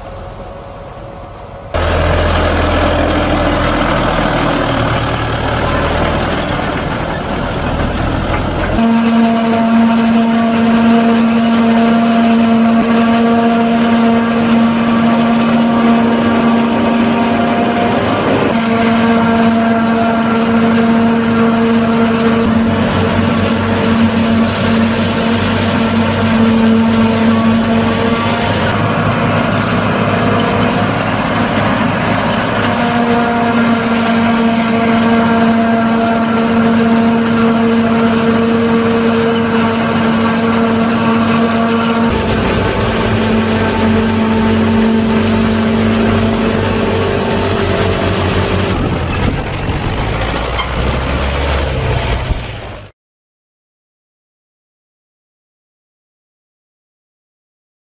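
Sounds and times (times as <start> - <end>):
drone propellers humming: 0.0 - 52.9
tractor diesel engine running: 0.0 - 52.9.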